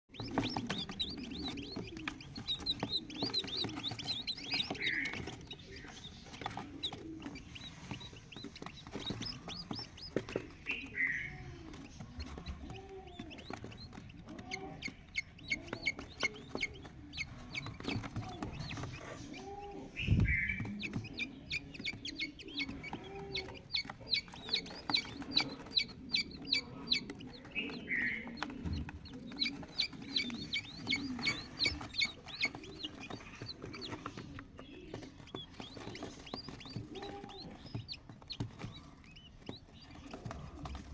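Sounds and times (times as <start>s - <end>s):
chicks peeping: 0.0s - 40.9s
clucking calls: 0.1s - 40.9s.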